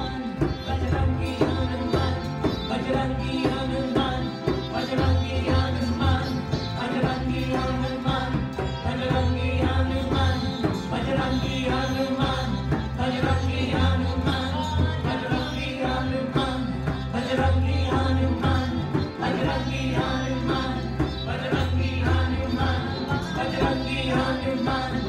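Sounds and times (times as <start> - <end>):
harmoniums holding chords: 0.0 - 25.0
low bass notes: 0.0 - 25.0
tabla rhythm: 0.0 - 25.0
voices singing a chant: 0.0 - 25.0.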